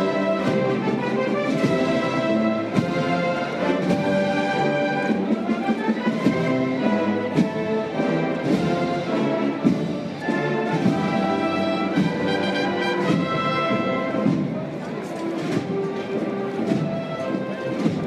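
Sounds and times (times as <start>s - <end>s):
brass band playing a march: 0.0s - 18.0s
drum strokes: 0.0s - 18.0s.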